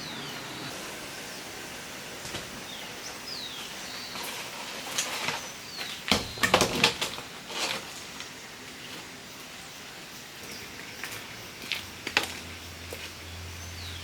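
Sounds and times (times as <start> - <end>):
birds chirping: 0.0 - 7.4, 8.1 - 14.0.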